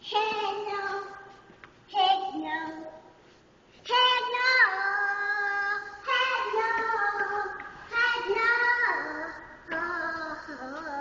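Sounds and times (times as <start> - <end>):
young child singing: 0.0 - 3.2, 3.8 - 11.0.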